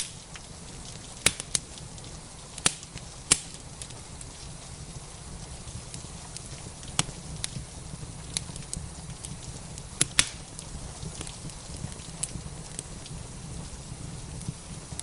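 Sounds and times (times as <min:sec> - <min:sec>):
rain hissing: 0:00.0 - 0:15.0
wood fire crackling and popping: 0:00.0 - 0:15.0.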